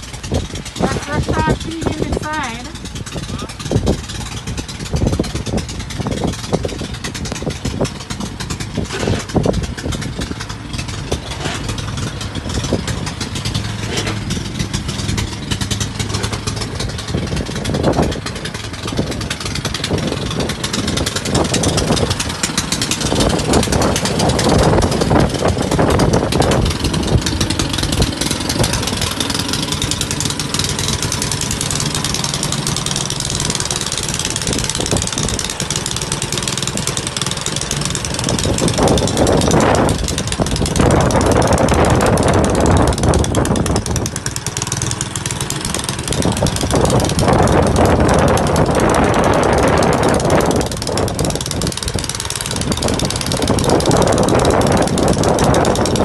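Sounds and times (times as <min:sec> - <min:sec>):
snow blower engine running: 0:00.0 - 0:56.0.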